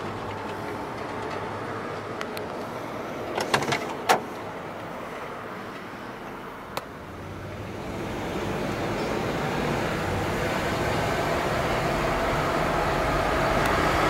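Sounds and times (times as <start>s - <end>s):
car low hum: 0.0s - 14.0s.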